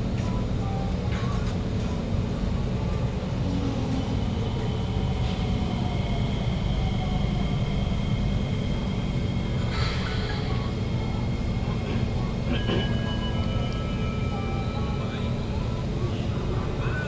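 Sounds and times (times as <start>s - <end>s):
train interior low rumble: 0.0s - 17.0s.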